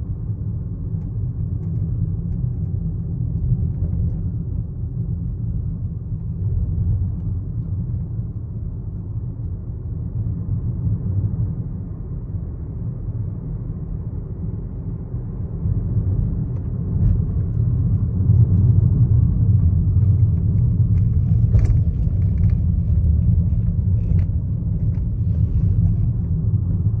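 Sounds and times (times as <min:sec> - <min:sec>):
low rumble inside car cabin: 0:00.0 - 0:27.0.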